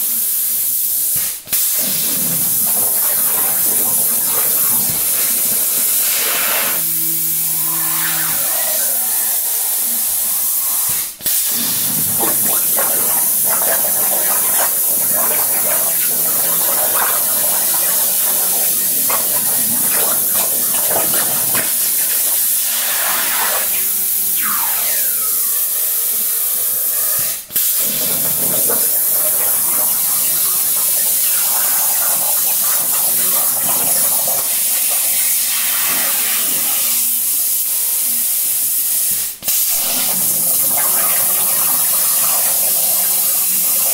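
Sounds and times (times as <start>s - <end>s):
plasma torch hissing: 0.0s - 43.9s.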